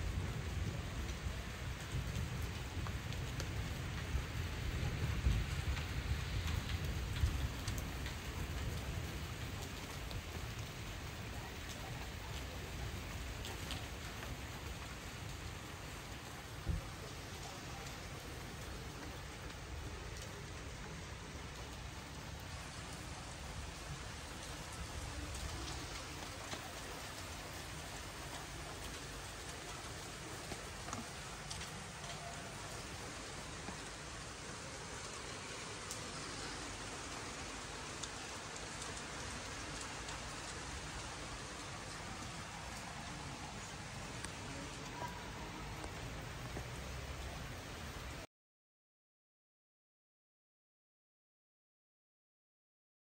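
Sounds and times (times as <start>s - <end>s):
steady rain falling: 0.0s - 48.3s
raindrops ticking: 0.2s - 48.2s.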